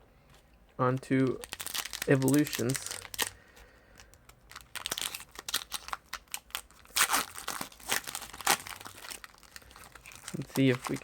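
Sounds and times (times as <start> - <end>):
foil wrapper crinkling and tearing: 1.0 - 11.0.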